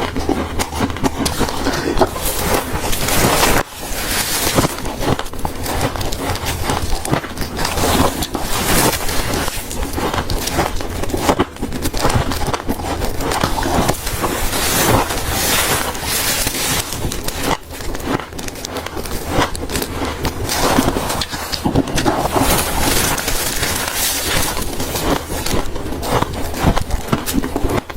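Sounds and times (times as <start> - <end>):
frost being crunched by chewing: 0.0 - 27.9.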